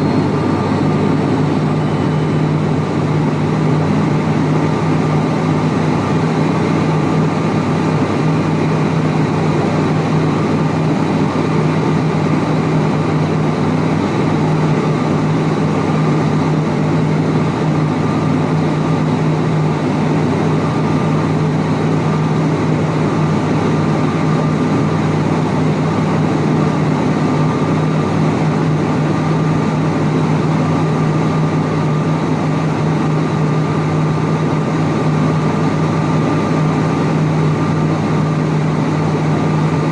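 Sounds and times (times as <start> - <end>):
high engine whine: 0.0 - 39.9
turboprop engines droning: 0.0 - 39.9.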